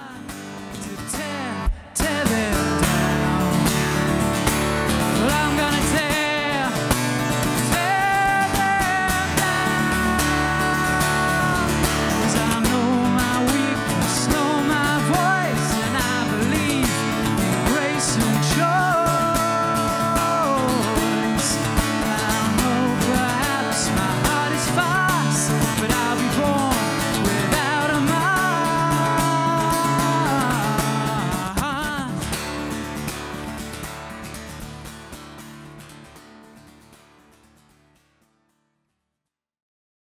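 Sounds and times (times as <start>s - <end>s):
man singing: 0.0s - 32.8s
acoustic guitar strumming: 0.0s - 38.3s.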